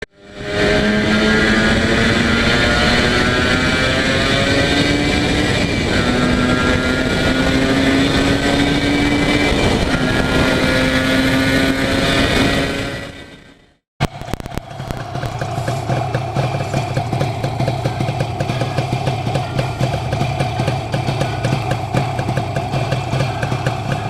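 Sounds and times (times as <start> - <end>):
two-stroke engine accelerating: 0.0 - 24.0.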